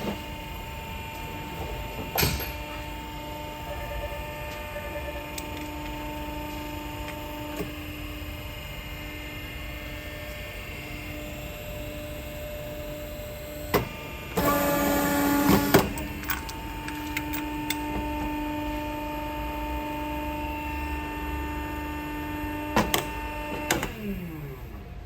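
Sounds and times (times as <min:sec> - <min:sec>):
machine motor humming: 0:00.0 - 0:25.0.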